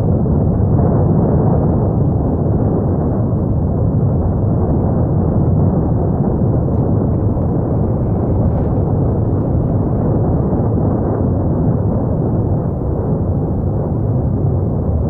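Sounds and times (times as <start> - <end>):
volcano rumbling: 0.0 - 15.0.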